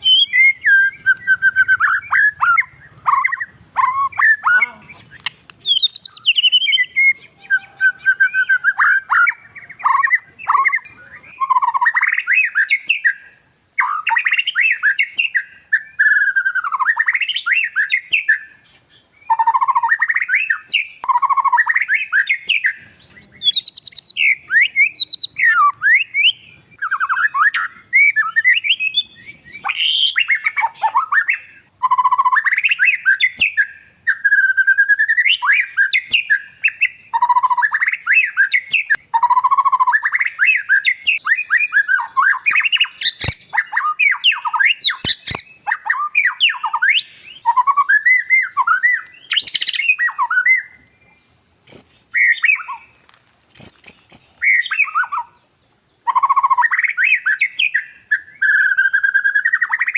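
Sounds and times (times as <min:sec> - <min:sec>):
bird singing whistled notes: 0:00.0 - 0:53.0, 0:53.6 - 0:59.9.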